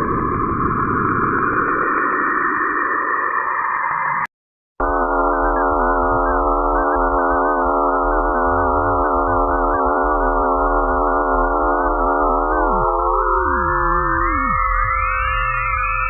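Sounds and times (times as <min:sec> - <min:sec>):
drone of held tones: 0:00.0 - 0:16.0.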